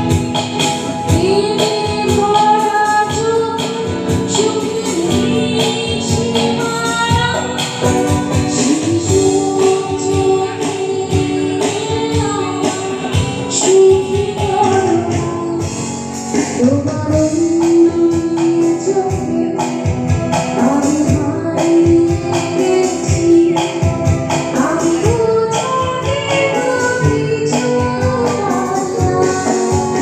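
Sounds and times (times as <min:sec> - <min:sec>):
bass: 0:00.0 - 0:30.0
electric guitar: 0:00.0 - 0:30.0
keyboard: 0:00.0 - 0:30.0
woman singing into a microphone: 0:00.0 - 0:30.0.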